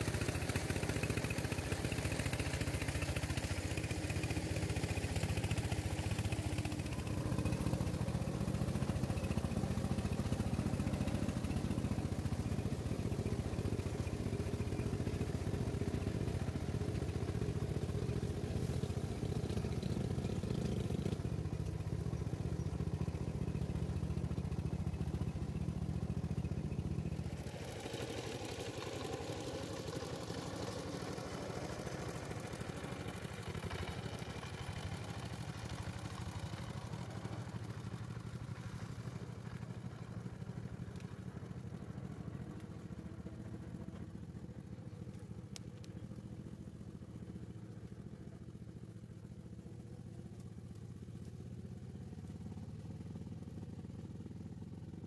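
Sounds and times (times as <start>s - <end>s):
truck engine running: 0.0s - 54.7s.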